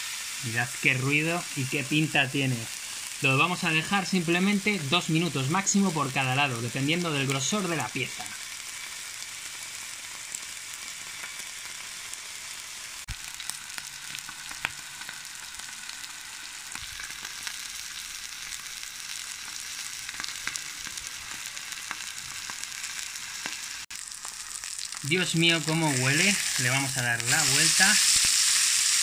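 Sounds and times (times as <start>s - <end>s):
meat sizzling on a hot plate: 0.0s - 29.0s.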